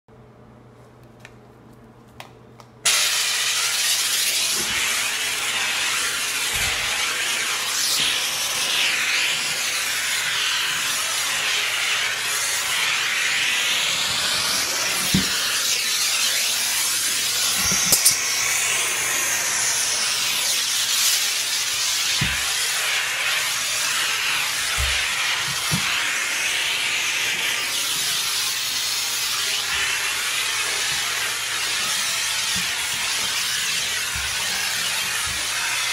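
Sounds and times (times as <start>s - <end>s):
steam cleaner hissing: 2.9s - 35.9s.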